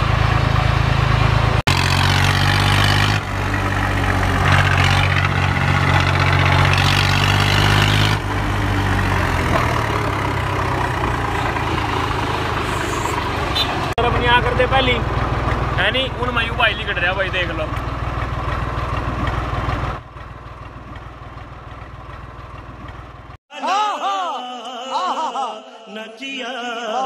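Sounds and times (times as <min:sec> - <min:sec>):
tractor diesel engine running: 0:00.0 - 0:23.4.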